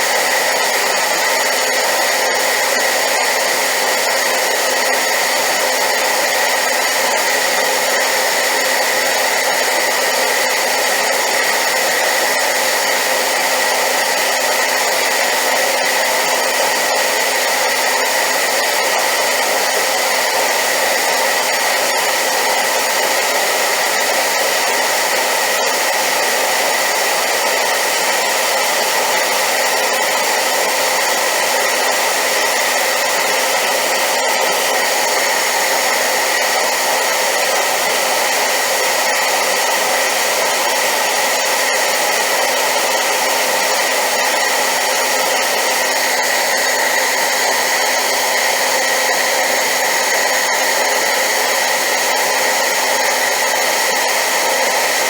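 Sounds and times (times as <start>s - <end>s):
hair dryer blowing air: 0.0s - 55.0s.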